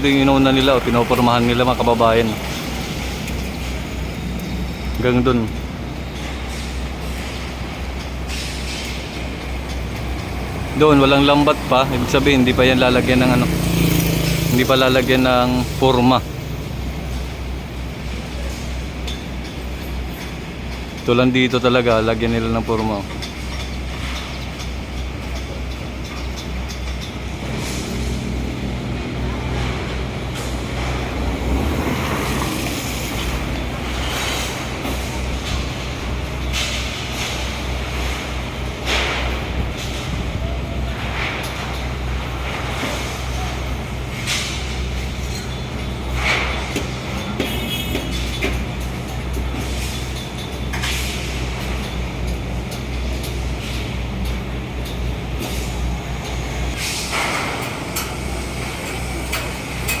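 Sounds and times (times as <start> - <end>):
heavy vehicle engines in traffic: 0.0 - 60.0.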